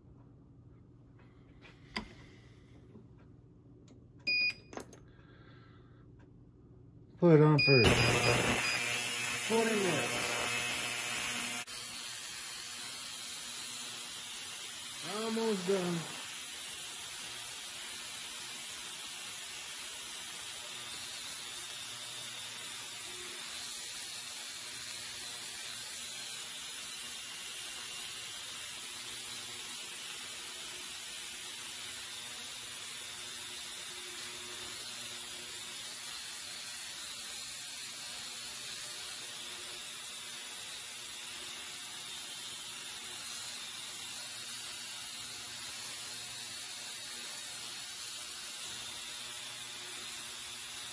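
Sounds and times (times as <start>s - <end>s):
ultrasonic cleaner hissing: 7.8s - 50.9s.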